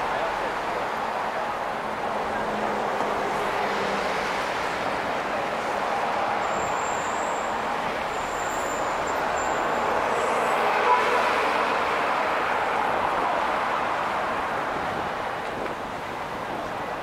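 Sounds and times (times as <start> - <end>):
cars and truck passing: 0.0 - 17.0.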